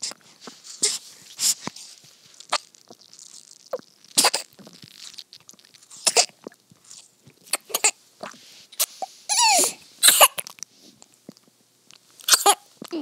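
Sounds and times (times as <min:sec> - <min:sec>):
baby sucking from bottle: 0:00.0 - 0:11.1.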